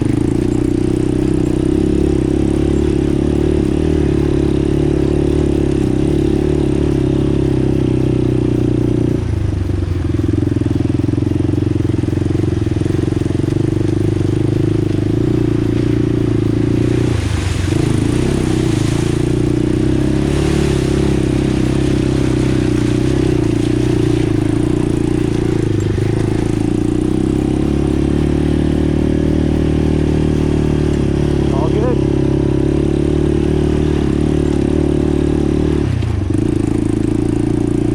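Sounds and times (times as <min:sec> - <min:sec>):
atv engine running: 0:00.0 - 0:37.9.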